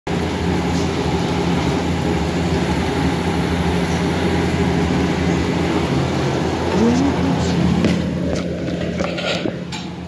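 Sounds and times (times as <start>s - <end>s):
kitchen equipment roar and hum: 0.1s - 10.0s.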